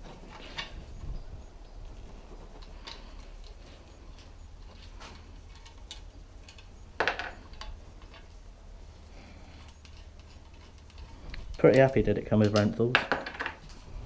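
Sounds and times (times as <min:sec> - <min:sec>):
low steady hum: 0:00.0 - 0:14.0
tools and metal parts clicking: 0:01.6 - 0:08.5, 0:09.2 - 0:13.9.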